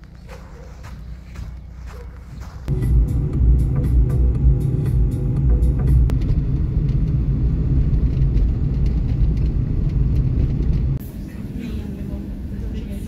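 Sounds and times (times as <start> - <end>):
car cabin road rumble: 0.0 - 13.0
train carriage hum: 0.0 - 13.0.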